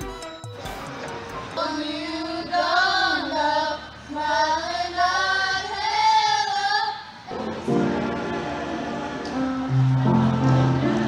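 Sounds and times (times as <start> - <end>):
young voices singing together: 0.8 - 11.0.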